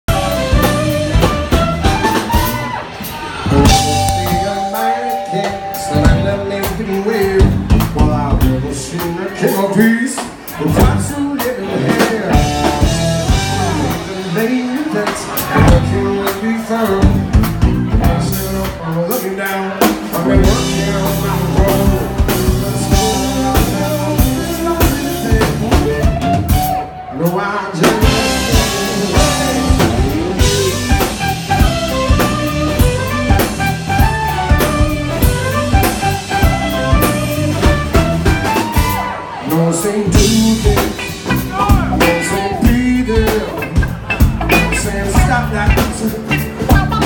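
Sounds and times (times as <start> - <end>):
drum kit beat: 0.0 - 26.9, 27.8 - 47.0
bass guitar: 0.0 - 47.0
live rock band playing: 0.0 - 47.0
electric guitars: 0.1 - 9.6, 10.2 - 47.0
person singing: 3.4 - 47.0.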